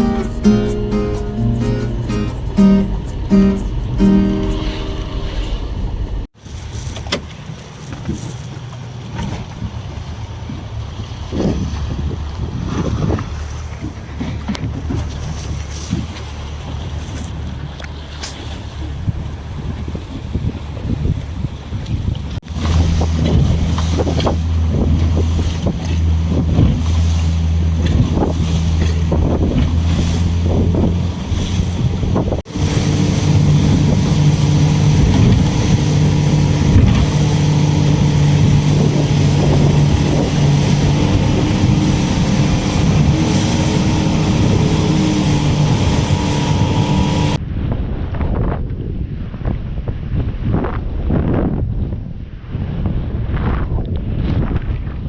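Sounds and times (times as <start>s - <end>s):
boat engine running: 0.0s - 47.4s
wind on microphone: 0.0s - 55.0s.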